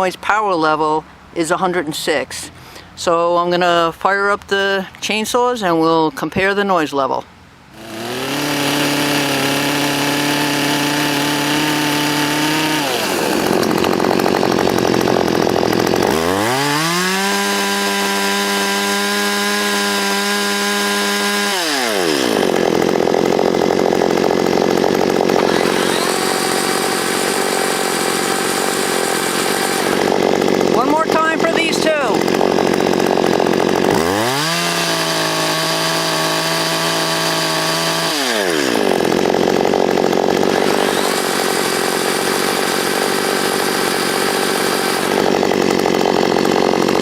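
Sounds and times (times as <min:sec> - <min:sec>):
chainsaw running roughly: 0:07.7 - 0:47.0
chainsaw spinning up with whine: 0:07.7 - 0:47.0.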